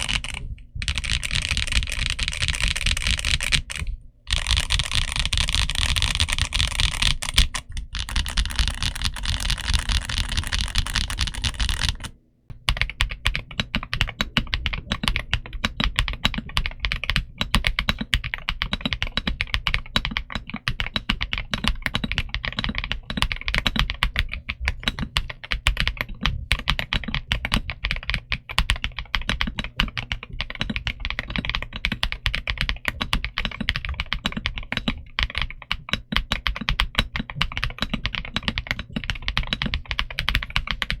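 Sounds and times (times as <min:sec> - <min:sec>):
mechanical keyboard typing: 0:00.0 - 0:41.0.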